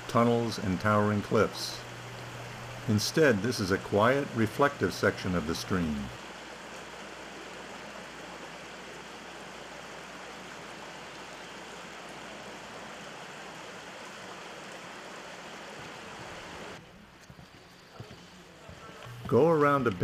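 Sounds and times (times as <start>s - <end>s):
stream flowing: 0.0s - 19.9s.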